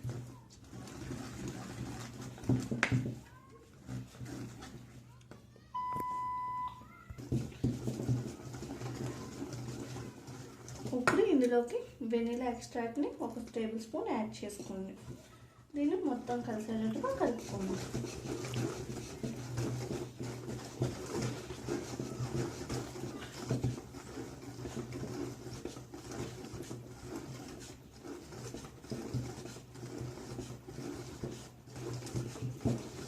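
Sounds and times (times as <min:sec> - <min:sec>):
utensil scraping a mixing bowl: 0:00.0 - 0:05.9, 0:07.2 - 0:33.0.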